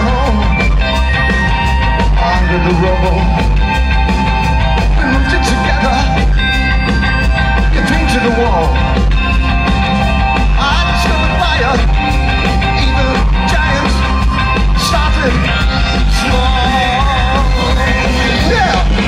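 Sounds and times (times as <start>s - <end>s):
electric guitar: 0.0s - 19.0s
heavy bass: 0.0s - 19.0s
wavering melody line: 0.0s - 19.0s.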